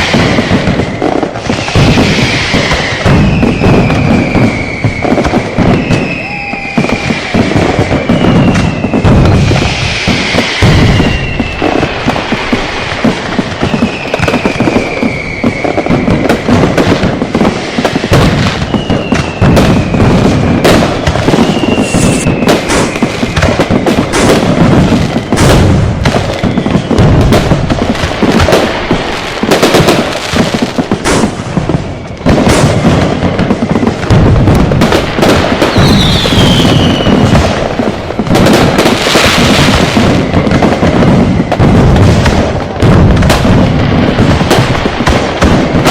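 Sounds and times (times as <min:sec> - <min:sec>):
firecracker explosions: 0:00.0 - 0:45.9
whistling fireworks: 0:00.0 - 0:45.9.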